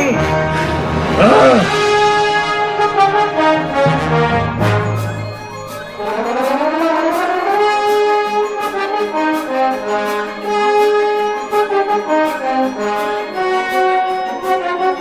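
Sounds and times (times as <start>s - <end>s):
brass-led orchestral music: 0.0s - 15.0s.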